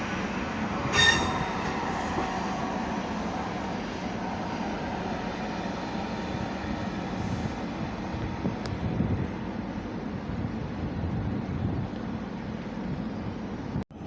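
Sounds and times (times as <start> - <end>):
train wheels rumbling on track: 0.0 - 13.8.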